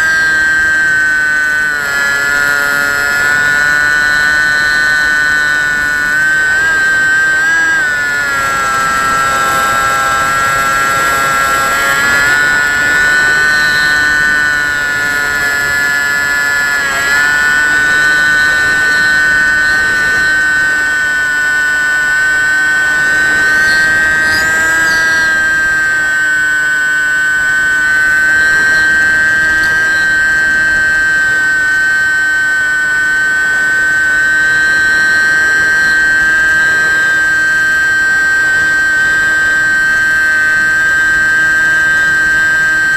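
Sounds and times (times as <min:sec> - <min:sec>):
electric motor and propeller whine: 0:00.0 - 0:42.9.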